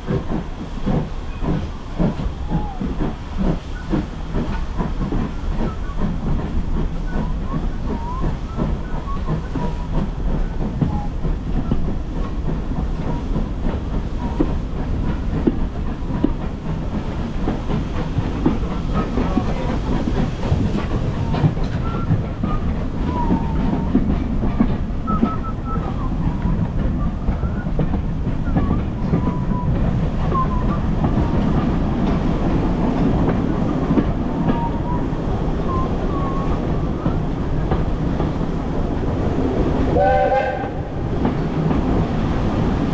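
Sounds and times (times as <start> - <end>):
train rumbling along track: 0.0 - 42.9.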